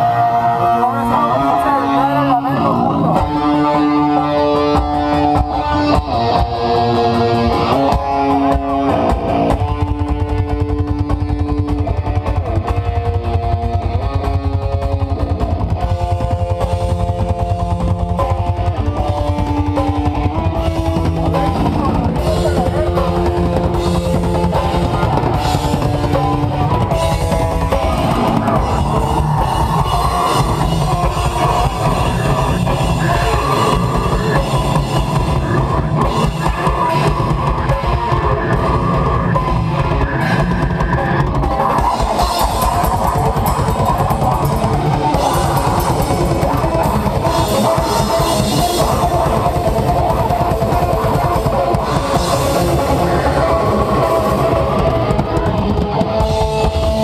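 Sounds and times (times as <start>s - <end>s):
electric guitar riff: 0.0s - 57.0s
metal band playing live: 0.0s - 57.0s.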